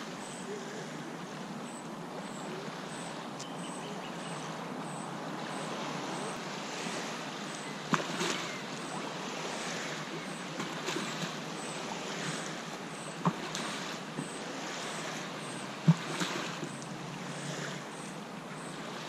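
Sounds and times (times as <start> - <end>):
small waves lapping on shore: 0.0 - 19.0.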